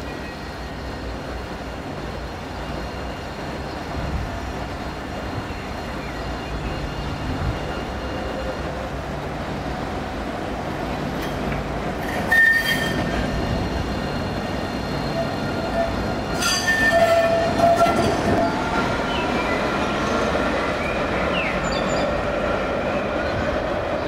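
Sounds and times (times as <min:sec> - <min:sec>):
tram rumbling on track: 0:00.0 - 0:24.0.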